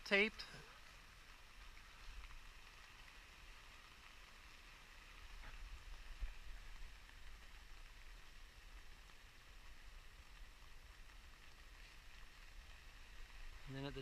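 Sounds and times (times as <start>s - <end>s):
rain on fabric sheet: 0.0s - 14.0s.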